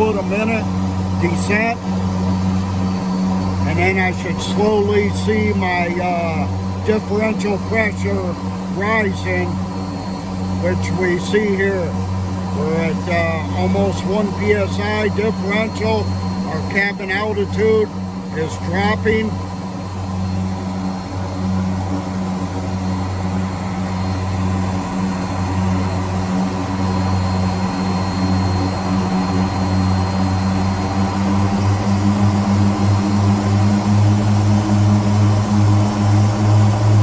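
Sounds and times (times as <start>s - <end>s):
turboprop engines droning: 0.0s - 37.0s.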